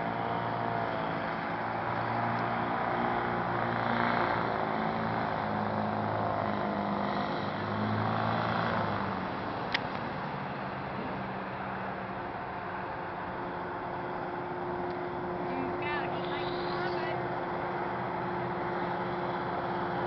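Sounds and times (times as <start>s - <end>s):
hovercraft engine and fan running: 0.0s - 20.0s.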